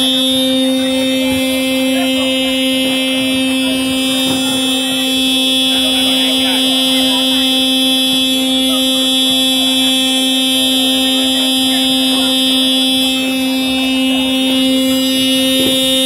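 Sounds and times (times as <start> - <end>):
buzzing drone: 0.0 - 16.0
faint voices: 0.0 - 16.0.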